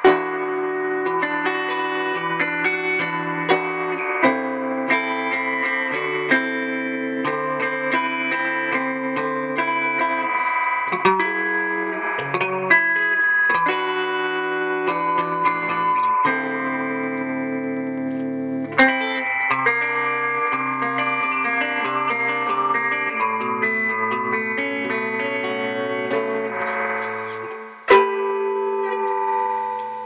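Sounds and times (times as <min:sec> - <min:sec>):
electric guitar picked notes: 0:00.0 - 0:30.0.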